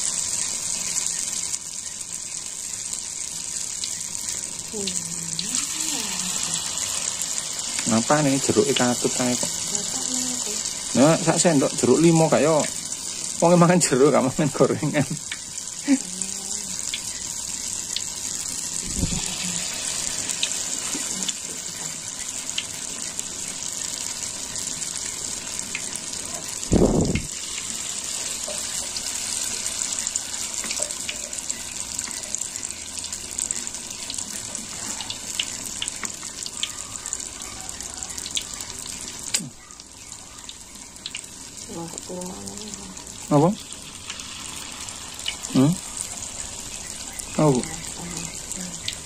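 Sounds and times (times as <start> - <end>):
batter sizzling in oil: 0.0 - 49.0.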